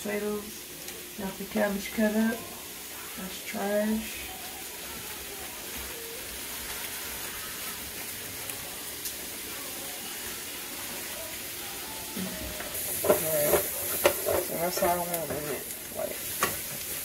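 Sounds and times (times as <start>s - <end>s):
sausage and peppers sizzling in pan: 0.0s - 17.0s.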